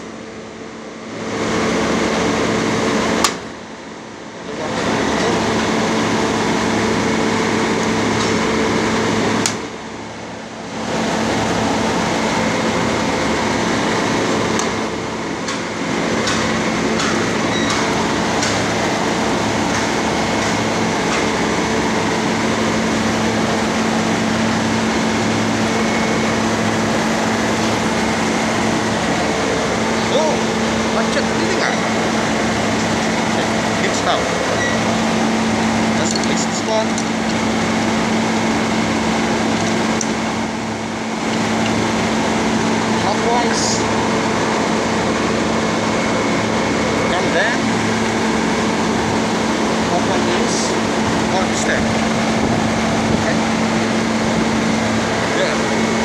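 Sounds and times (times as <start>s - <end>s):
condensing unit humming: 0.0s - 56.0s
fan noise: 0.0s - 56.0s.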